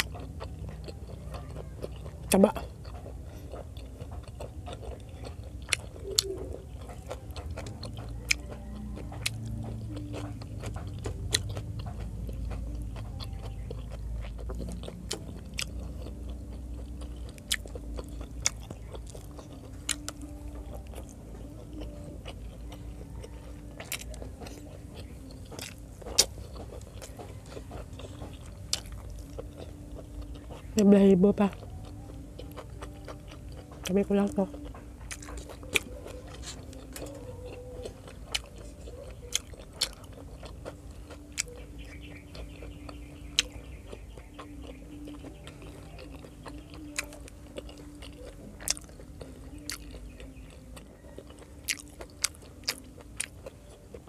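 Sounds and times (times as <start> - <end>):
chewing food: 0.0 - 54.0.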